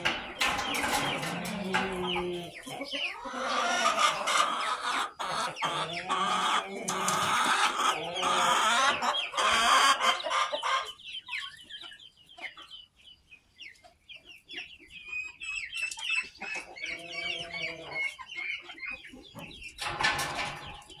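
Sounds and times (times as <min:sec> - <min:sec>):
chicken calling: 0:00.0 - 0:12.7, 0:14.9 - 0:21.0
chicks peeping: 0:00.0 - 0:21.0.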